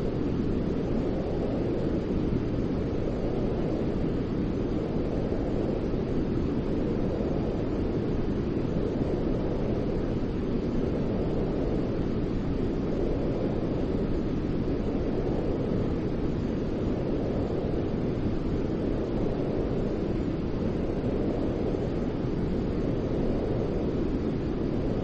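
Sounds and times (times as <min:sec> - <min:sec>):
low rumbling white noise: 0:00.0 - 0:25.0.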